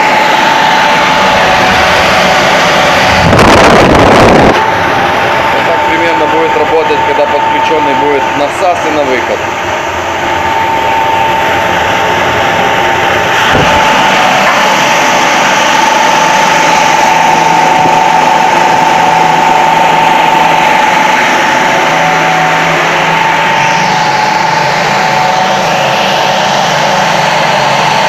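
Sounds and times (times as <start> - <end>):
fan rushing air: 0.0 - 28.0
fan whine: 0.0 - 28.0.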